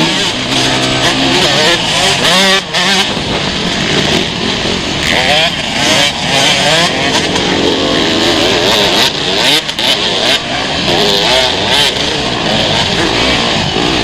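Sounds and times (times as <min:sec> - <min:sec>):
motocross engines revving: 0:00.0 - 0:14.0.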